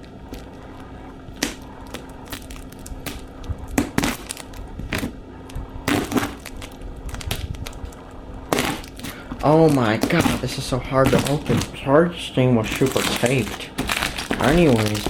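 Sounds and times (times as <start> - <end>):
cardboard and tape crackling: 0.0 - 15.0.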